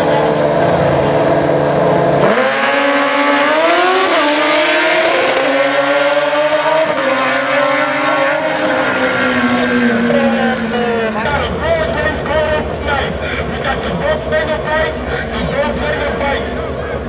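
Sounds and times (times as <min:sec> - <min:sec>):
motorcycles accelerating hard: 0:00.0 - 0:17.0.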